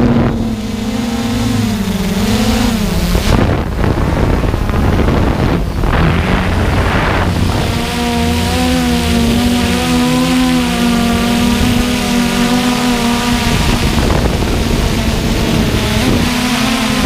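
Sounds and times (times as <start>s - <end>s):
drone propellers humming: 0.0s - 17.0s
wind noise on microphone: 0.0s - 17.0s.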